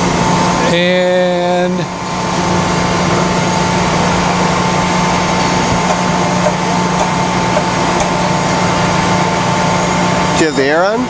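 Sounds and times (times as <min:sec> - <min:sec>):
grinder machine hum: 0:00.0 - 0:11.0
thin constant whine: 0:00.0 - 0:11.0.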